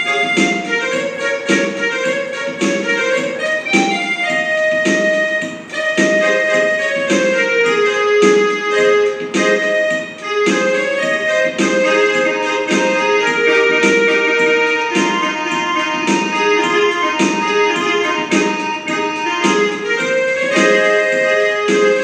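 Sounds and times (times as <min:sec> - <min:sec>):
electronic keyboard melody with chords: 0:00.0 - 0:22.0.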